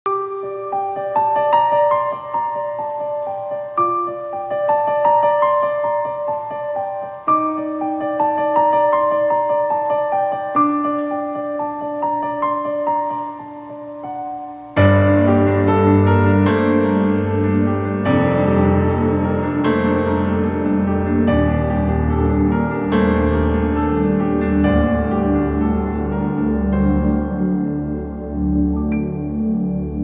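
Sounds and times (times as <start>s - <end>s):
piano playing: 0.0s - 30.0s.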